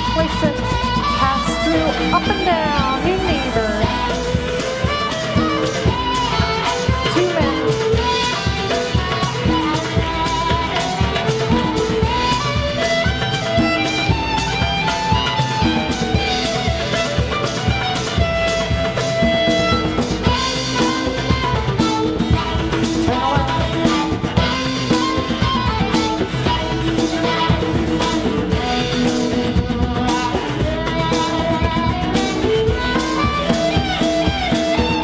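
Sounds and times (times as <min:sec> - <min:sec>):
drum kit beat: 0:00.0 - 0:35.0
fiddle melody: 0:00.0 - 0:35.0.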